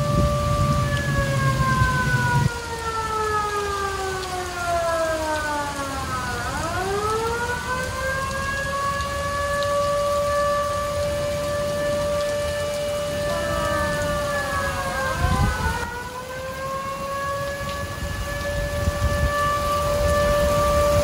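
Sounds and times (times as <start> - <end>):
steady rain: 0.0 - 21.0
warning siren sliding in pitch: 0.0 - 21.0.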